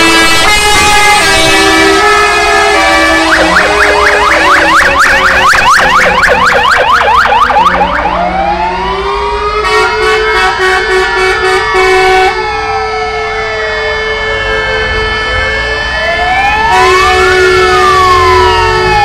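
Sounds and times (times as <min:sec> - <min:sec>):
fire engine sirens: 0:00.0 - 0:19.0.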